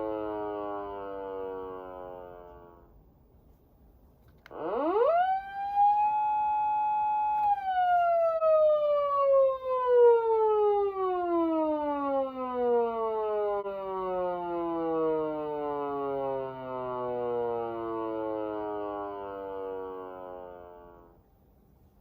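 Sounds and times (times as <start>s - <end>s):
electronic siren tone: 0.0s - 2.9s, 4.5s - 21.2s.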